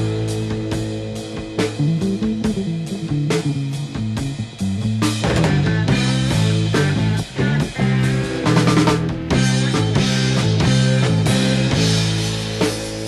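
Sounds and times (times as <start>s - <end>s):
rock guitar and drums: 0.0s - 13.0s.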